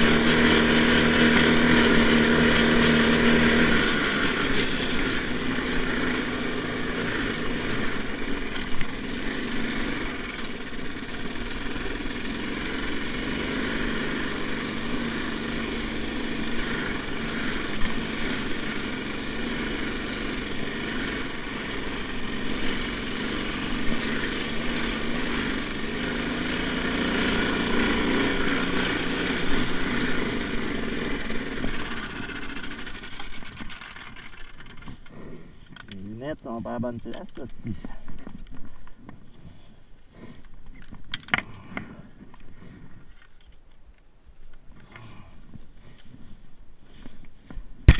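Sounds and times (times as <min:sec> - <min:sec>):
snow bike engine running: 0:00.0 - 0:40.5.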